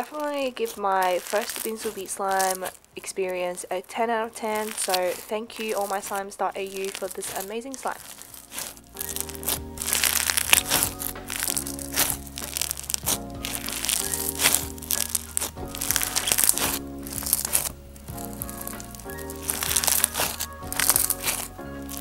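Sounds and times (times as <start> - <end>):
background music: 0.0 - 22.0
crunchy slime squeezed by hand: 0.6 - 2.9, 4.3 - 22.0.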